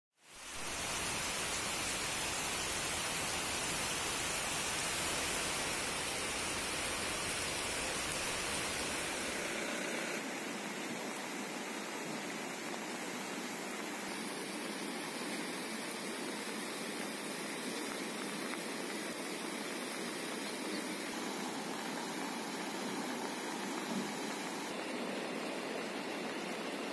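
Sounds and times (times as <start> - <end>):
floodwater rushing: 0.3 - 26.9.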